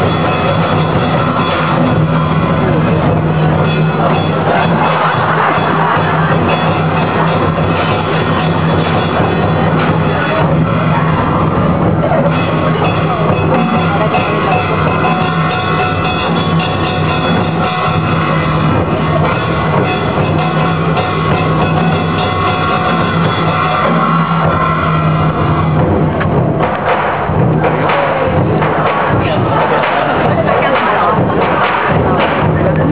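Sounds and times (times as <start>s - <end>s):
drums and percussion: 0.0s - 32.9s
sustained melodic instruments: 0.0s - 32.9s.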